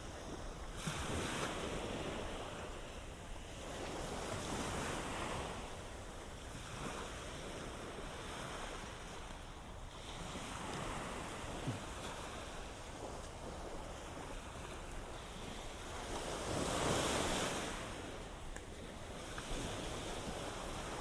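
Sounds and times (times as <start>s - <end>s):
ocean waves washing onto beach: 0.0s - 21.0s
wind on microphone: 0.0s - 21.0s.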